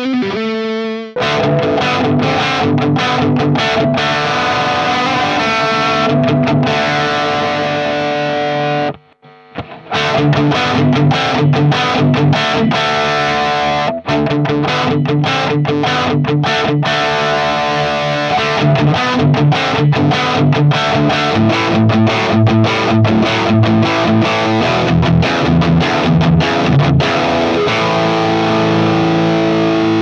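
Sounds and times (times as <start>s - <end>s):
distorted electric guitar riff: 0.0s - 30.0s.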